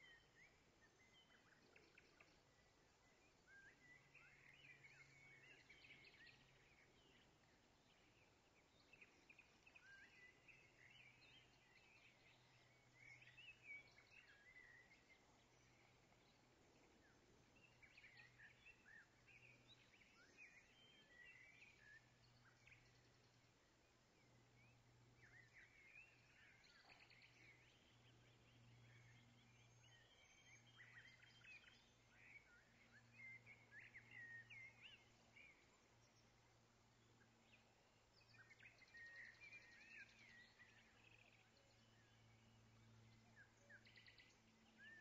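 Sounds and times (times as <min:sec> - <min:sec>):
faint low hum: 0:00.0 - 0:45.0
small birds chirping: 0:00.0 - 0:45.0.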